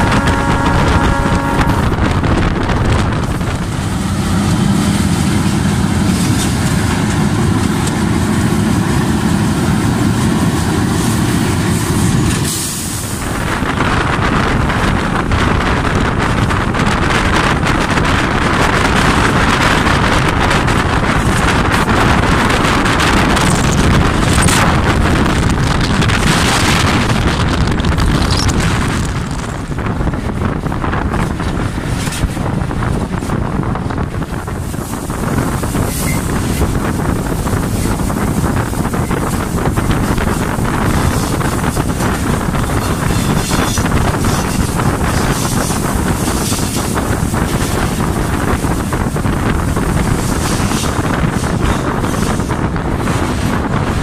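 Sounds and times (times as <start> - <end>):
diesel locomotive running: 0.0 - 54.0
wind buffeting microphone: 0.0 - 54.0.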